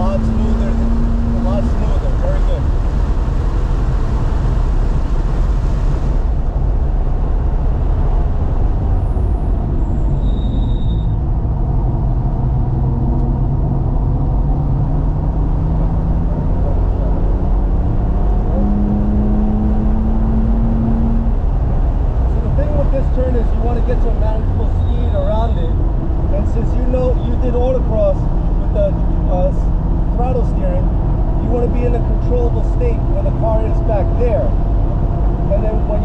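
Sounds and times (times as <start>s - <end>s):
car engine accelerating: 0.0s - 10.3s, 11.2s - 36.0s
road and wind noise rumble: 0.0s - 36.0s.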